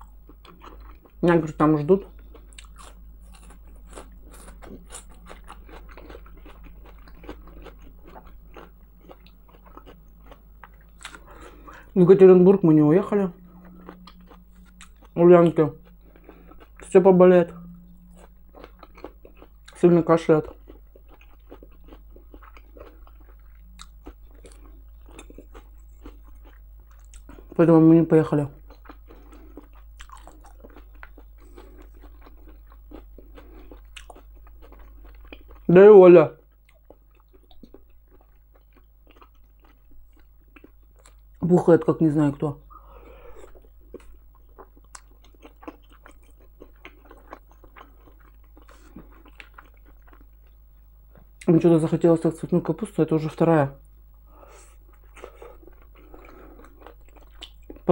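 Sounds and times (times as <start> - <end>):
person chewing crunchy food: 0.0 - 35.8, 36.4 - 41.5, 42.7 - 51.5, 54.2 - 57.9.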